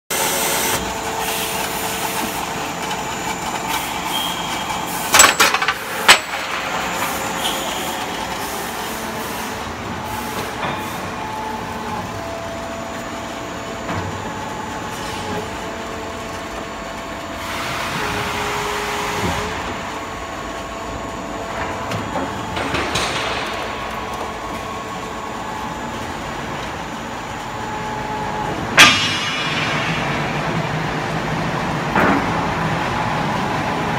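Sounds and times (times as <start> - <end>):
metal-cutting saw machine hum: 0.1 - 31.7.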